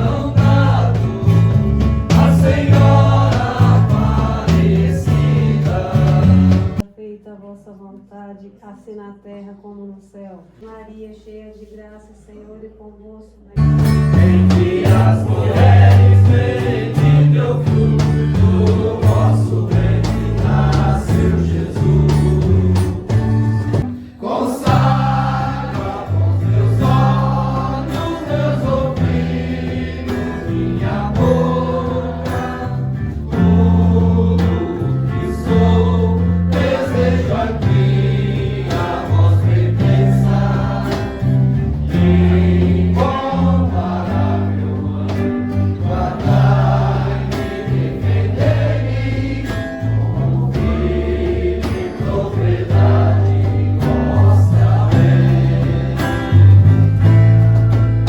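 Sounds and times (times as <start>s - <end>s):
bass line: 0.0s - 6.8s, 13.6s - 23.9s, 24.6s - 58.0s
choir singing a hymn: 0.0s - 6.8s, 13.8s - 57.2s.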